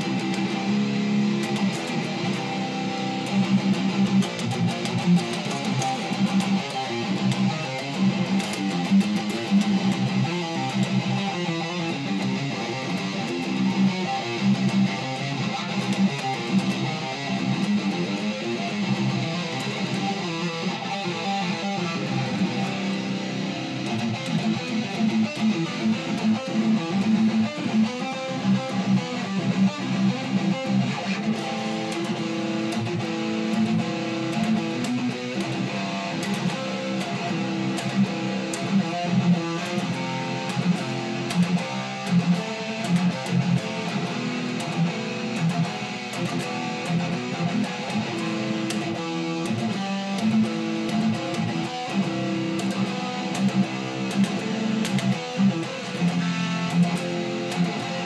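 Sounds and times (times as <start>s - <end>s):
electric guitar metal riffs: 0.0s - 58.0s.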